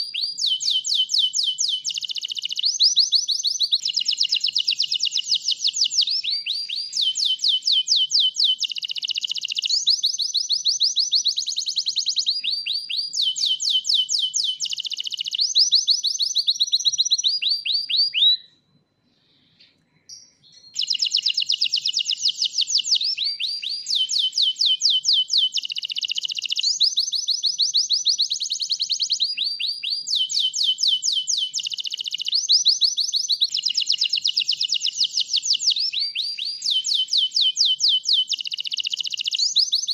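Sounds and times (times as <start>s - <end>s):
canary singing trills: 0.0s - 18.5s, 20.1s - 39.9s.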